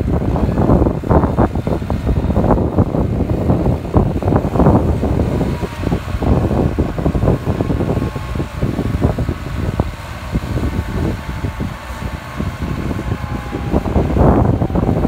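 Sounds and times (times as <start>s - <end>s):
faint steady whine: 0.0s - 15.0s
tractor diesel engine running: 0.0s - 15.0s
wind buffeting microphone: 0.0s - 15.0s.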